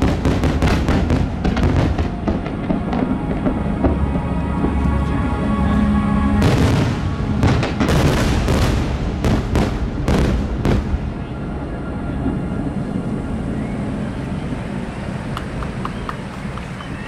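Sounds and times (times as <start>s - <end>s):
low rumbling echo: 0.0s - 17.0s.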